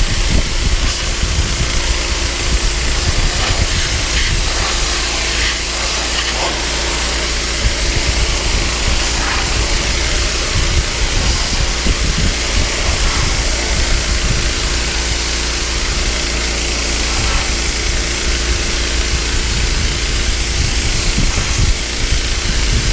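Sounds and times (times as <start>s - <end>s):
pressure washer motor hum: 0.0s - 22.9s
pressure washer spray hissing: 0.0s - 22.9s.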